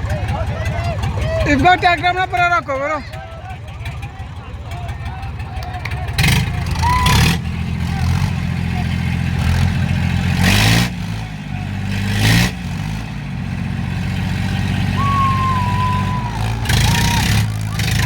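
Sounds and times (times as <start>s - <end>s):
tractor engines labouring: 0.0s - 18.0s.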